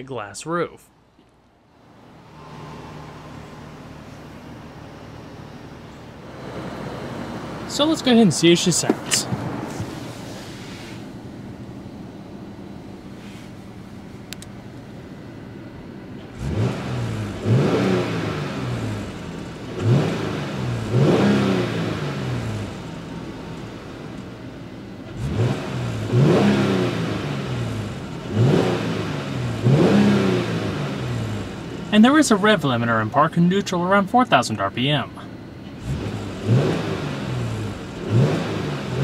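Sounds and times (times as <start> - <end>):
car engine idling and revving: 0.9 - 39.0.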